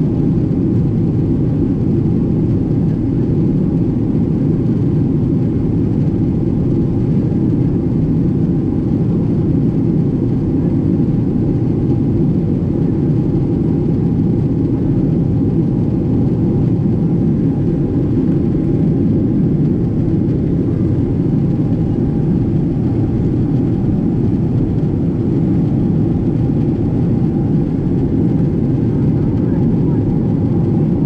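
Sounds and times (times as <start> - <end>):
aircraft cabin engine and airflow noise: 0.0 - 31.0.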